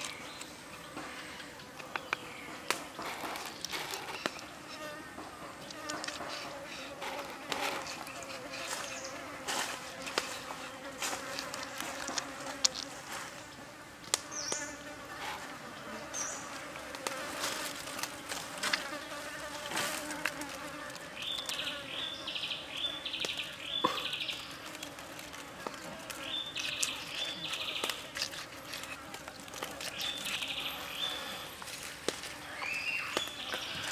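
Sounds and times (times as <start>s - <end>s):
insect buzzing: 0.0s - 31.9s.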